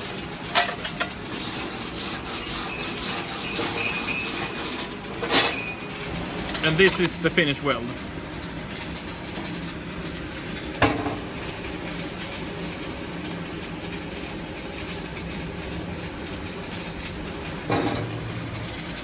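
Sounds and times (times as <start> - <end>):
workshop background noise: 0.0 - 19.0.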